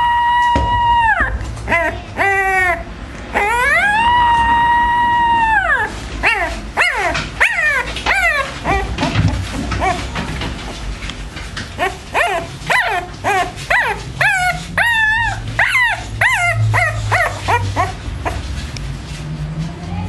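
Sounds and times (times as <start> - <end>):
puppy crying: 0.0 - 10.8, 11.6 - 18.5.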